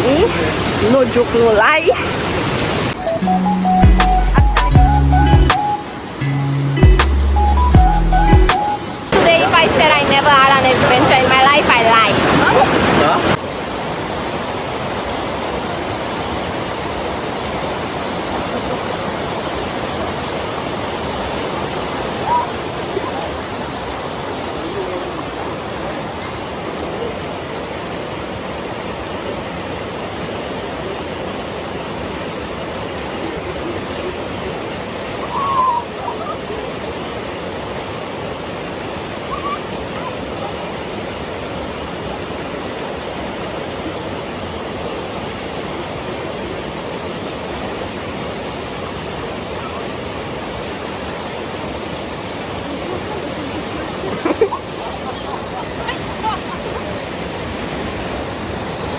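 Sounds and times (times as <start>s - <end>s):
waterfall and rushing river: 0.0s - 58.9s.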